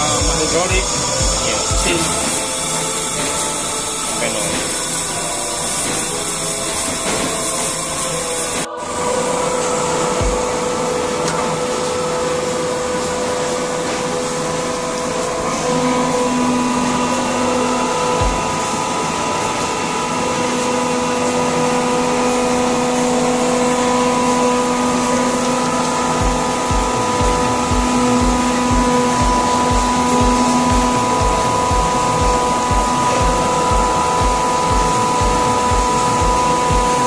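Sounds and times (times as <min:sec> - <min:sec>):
air compressor running: 0:00.0 - 0:37.0
constant machine whine: 0:00.0 - 0:37.0.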